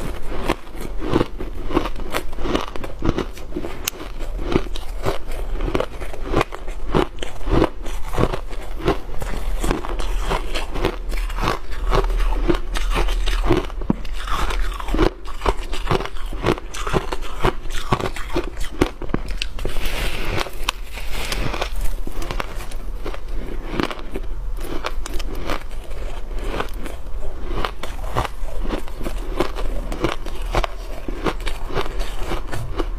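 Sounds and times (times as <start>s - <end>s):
ice crunching while chewed: 0.0s - 32.9s.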